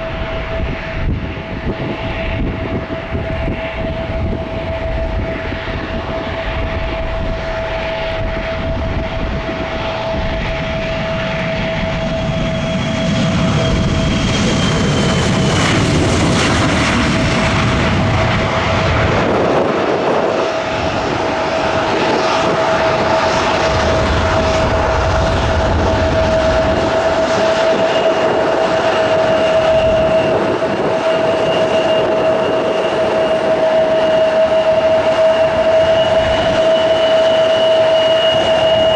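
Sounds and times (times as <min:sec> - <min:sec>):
airliner engines roaring: 0:00.0 - 0:38.9.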